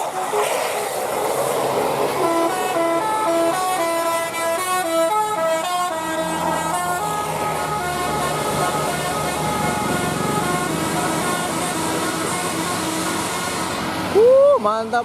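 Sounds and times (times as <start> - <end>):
musical bus horn tune: 0.0 - 0.5, 2.2 - 13.8
passing vehicle noise: 0.0 - 15.0.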